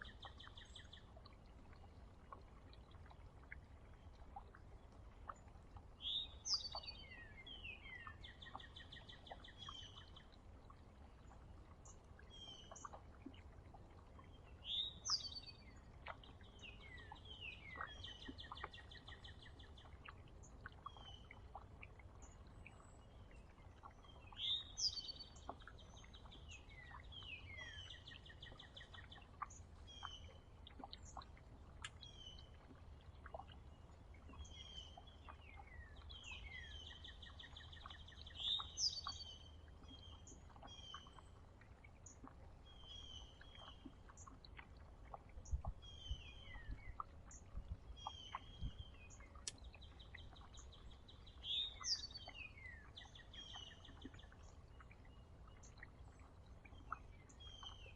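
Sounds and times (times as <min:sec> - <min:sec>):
songbird singing buzzy trills: 0:00.0 - 0:57.9.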